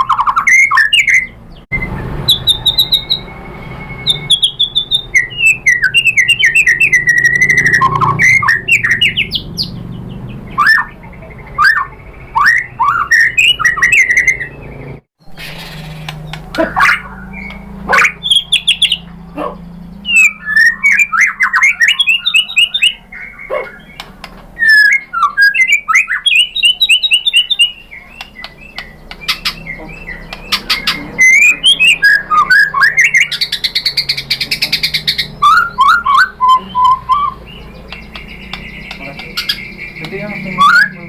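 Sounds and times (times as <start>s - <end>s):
bird singing whistled notes: 0.0s - 41.0s.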